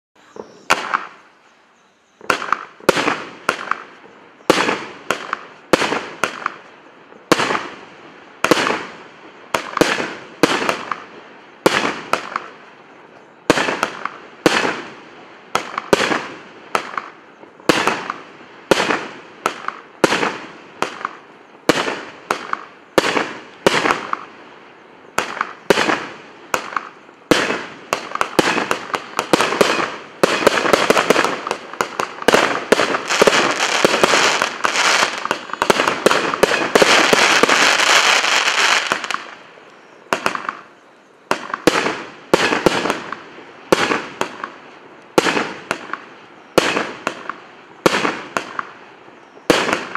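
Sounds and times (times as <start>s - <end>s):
firework cake firing bangs: 2.2s - 6.6s, 7.3s - 7.8s, 8.4s - 12.6s, 13.4s - 24.3s, 25.1s - 39.4s, 41.3s - 44.6s, 45.2s - 48.8s, 49.5s - 49.9s.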